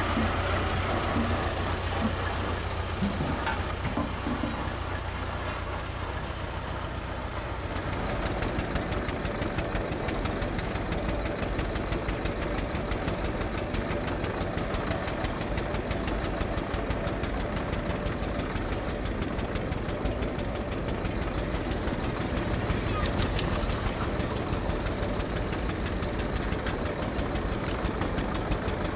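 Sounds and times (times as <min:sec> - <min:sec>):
engine running with knocking beat: 0:00.0 - 0:28.9.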